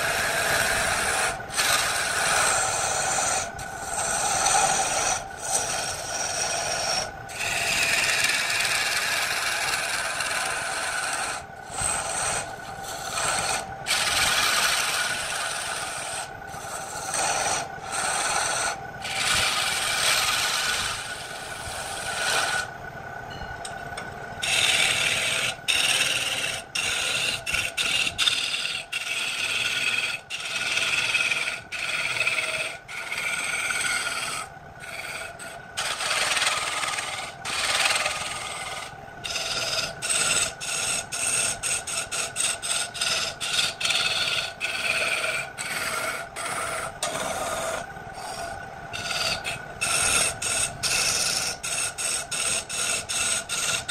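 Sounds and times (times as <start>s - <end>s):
lathe tool scraping wood: 0.0s - 22.7s, 24.4s - 53.9s
lathe motor hum: 0.0s - 53.9s.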